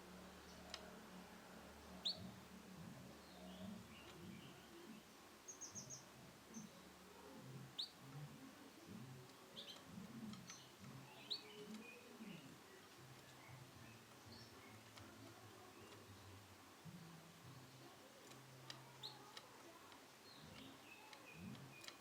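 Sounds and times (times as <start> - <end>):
canary chirping: 1.9 - 2.4, 3.0 - 8.4, 9.1 - 22.0.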